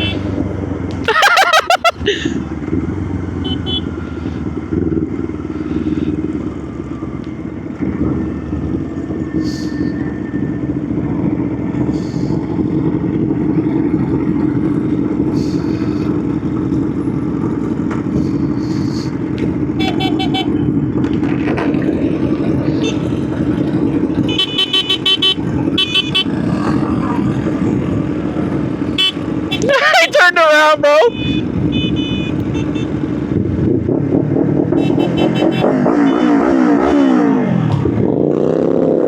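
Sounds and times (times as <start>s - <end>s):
motorcycle engine running: 0.0s - 39.0s
wind and road noise: 0.0s - 39.0s.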